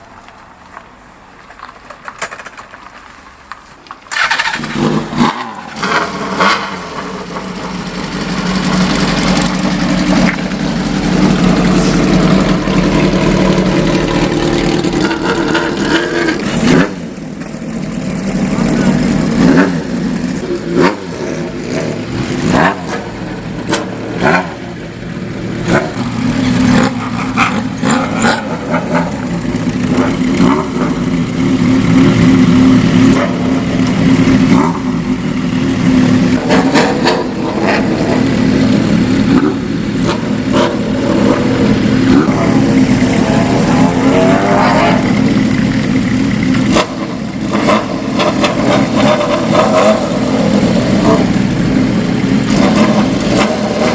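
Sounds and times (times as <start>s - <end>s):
motorcycle engines revving: 4.1s - 53.9s.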